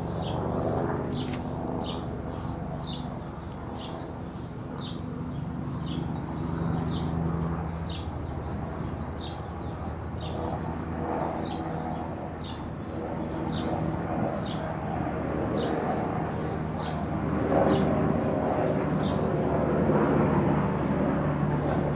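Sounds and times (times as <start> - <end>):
small birds chirping: 0.0 - 14.8, 15.6 - 19.6.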